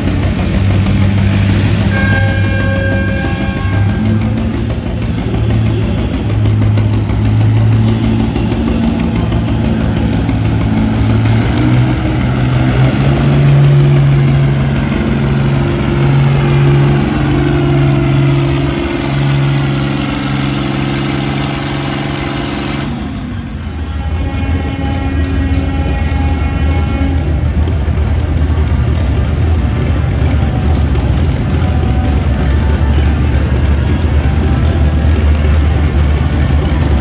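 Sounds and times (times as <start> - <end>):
tractor engine running under load: 0.0 - 37.0.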